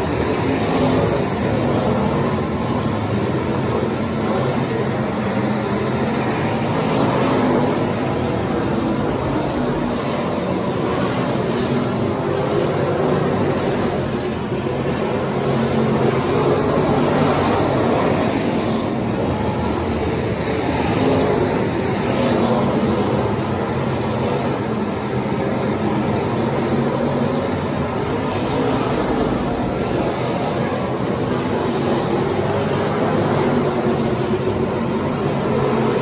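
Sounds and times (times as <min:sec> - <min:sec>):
race car engines: 0:00.0 - 0:36.0.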